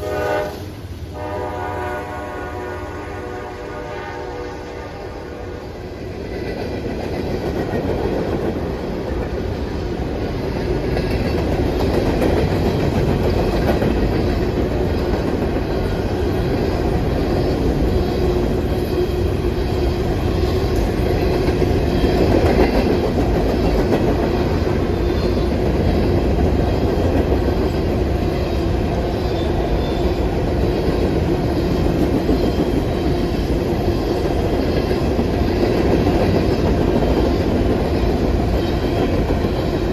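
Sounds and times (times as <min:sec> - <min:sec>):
train wheels clacking on rails: 0:05.8 - 0:39.9.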